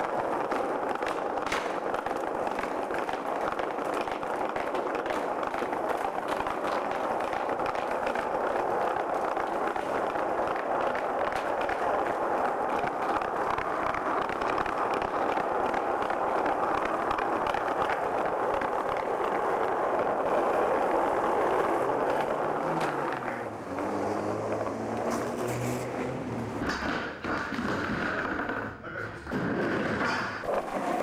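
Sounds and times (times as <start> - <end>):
skateboard wheels rolling: 0.0 - 31.0.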